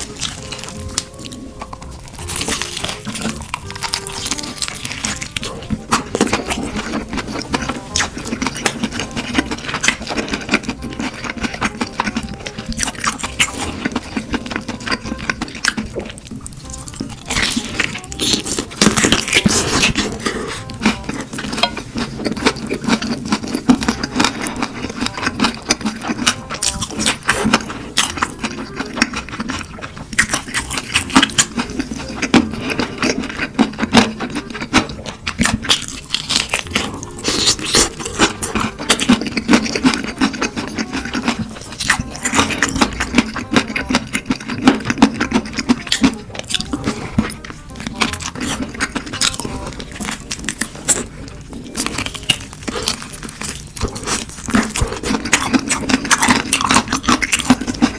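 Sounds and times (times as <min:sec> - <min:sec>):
crunching and chewing: 0:00.0 - 0:57.9.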